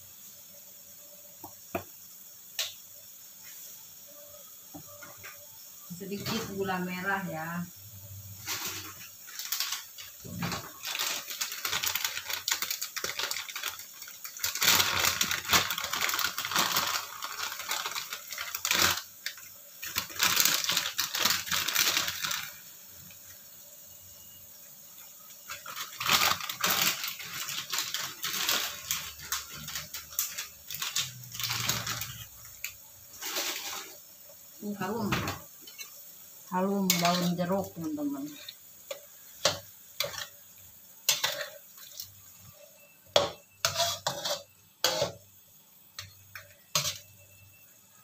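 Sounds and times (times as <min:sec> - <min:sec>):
cooking clicks and scraping: 0:08.2 - 0:23.7, 0:24.3 - 0:48.0.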